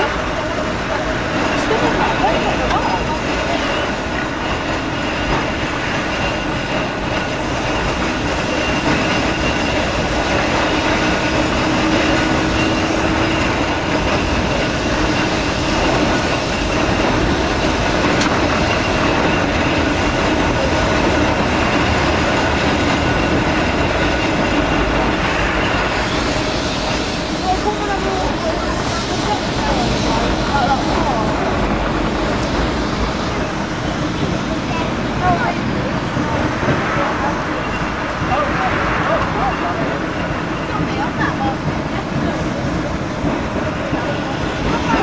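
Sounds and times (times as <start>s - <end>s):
tram wheels on rail: 0.0s - 45.0s.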